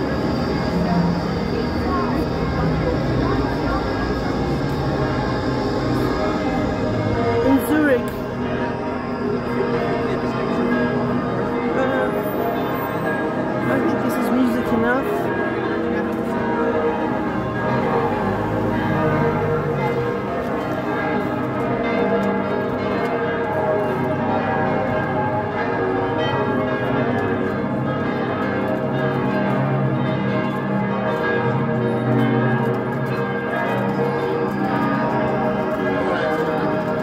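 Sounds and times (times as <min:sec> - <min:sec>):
church bells pealing: 0:00.0 - 0:37.0.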